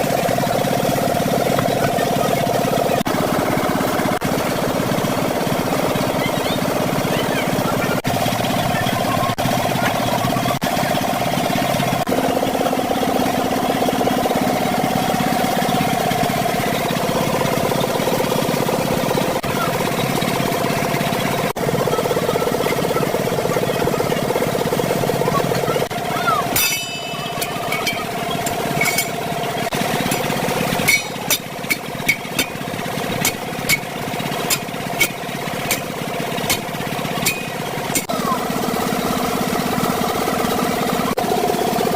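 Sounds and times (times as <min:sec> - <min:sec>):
engine running with fast pulse: 0:00.0 - 0:41.9
steady mechanical hum: 0:00.0 - 0:41.9.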